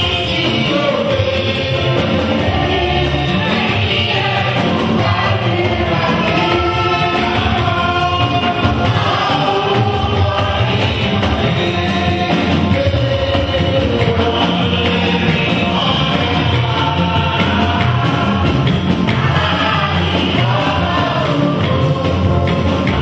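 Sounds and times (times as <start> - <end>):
congregation singing a hymn: 0.0 - 23.0
instrumental accompaniment: 0.0 - 23.0.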